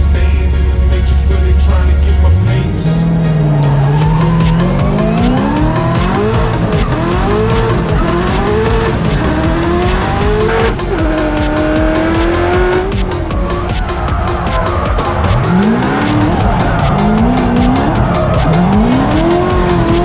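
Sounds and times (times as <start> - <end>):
car engines revving: 0.0 - 20.0
electronic music with steady beat: 0.0 - 20.0
tyres screeching: 0.0 - 20.0.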